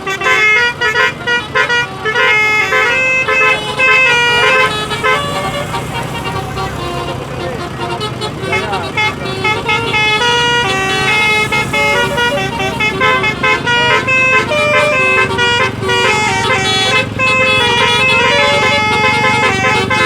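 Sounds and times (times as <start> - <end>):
bus horns playing a tune: 0.0 - 20.0
low rumble of buses: 0.0 - 20.0.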